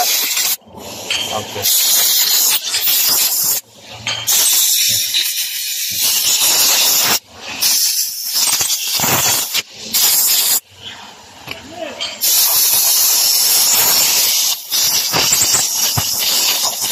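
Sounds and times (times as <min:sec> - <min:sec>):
air blow gun hissing: 0:00.0 - 0:03.6, 0:04.3 - 0:10.6, 0:12.2 - 0:16.9.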